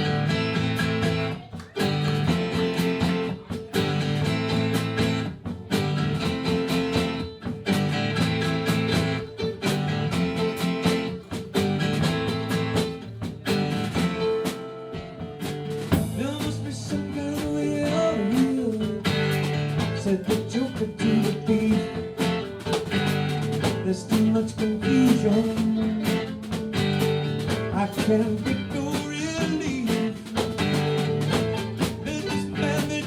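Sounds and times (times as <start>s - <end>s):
drums: 0.0s - 33.0s
sliding guitar notes: 0.0s - 33.0s
strummed guitars: 0.0s - 33.0s.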